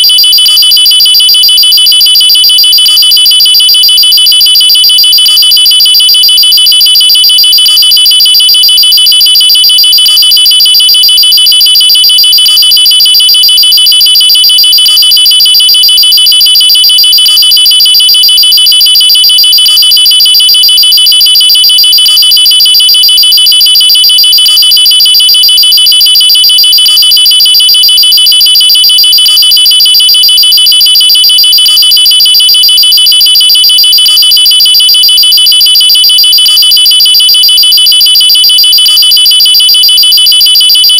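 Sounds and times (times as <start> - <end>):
high-pitched pulsing electronic alarm: 0.0 - 40.9.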